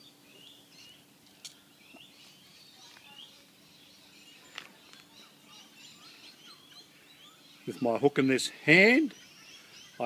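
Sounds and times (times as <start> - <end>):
faint steady hum: 0.0 - 10.0
small birds chirping: 0.0 - 10.0.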